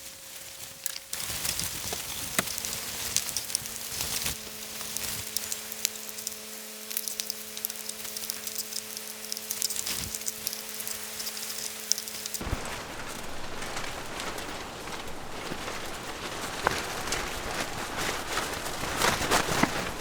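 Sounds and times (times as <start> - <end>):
fish sizzling on a grill: 0.2 - 17.5
faint steady hum: 2.5 - 20.0.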